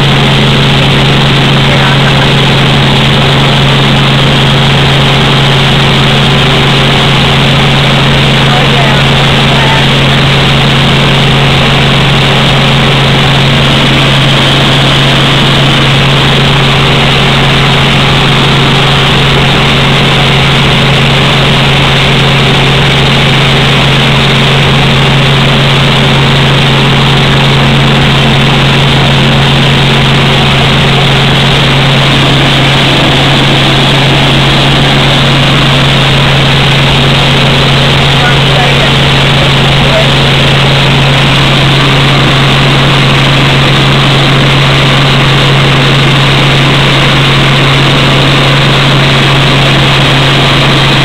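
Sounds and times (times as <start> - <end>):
helicopter engine and rotor drone: 0.0 - 51.0
low hum: 0.0 - 51.0.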